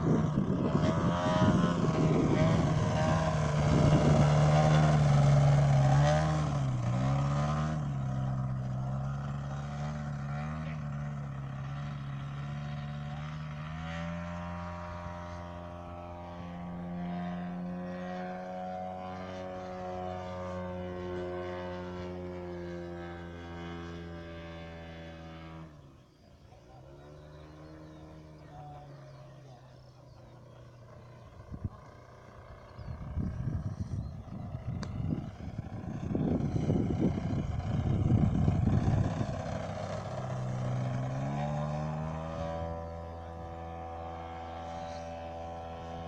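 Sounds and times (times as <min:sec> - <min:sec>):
model plane engine and propeller: 0:00.0 - 0:46.0.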